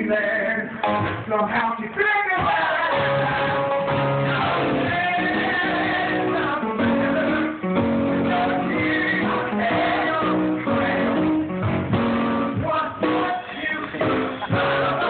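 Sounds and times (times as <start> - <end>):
men singing: 0.0 - 11.5, 12.4 - 15.0
guitar-led band: 0.0 - 15.0.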